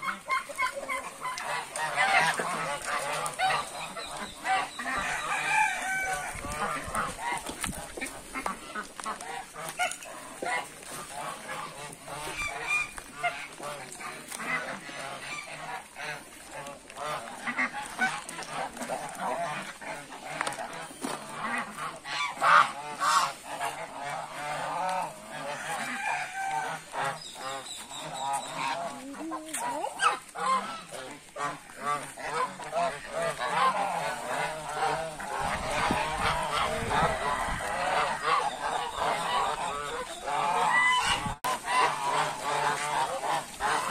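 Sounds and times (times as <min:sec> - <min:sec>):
flock of geese honking: 0:00.0 - 0:43.9.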